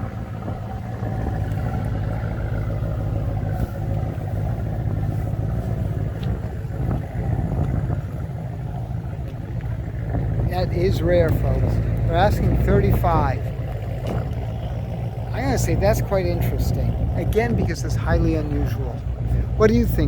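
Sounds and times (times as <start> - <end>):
low engine-like rumble: 0.0 - 20.0.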